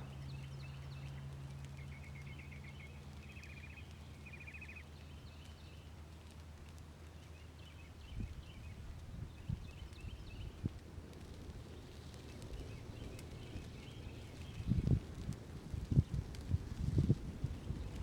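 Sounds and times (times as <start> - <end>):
low steady engine hum: 0.0 - 18.0.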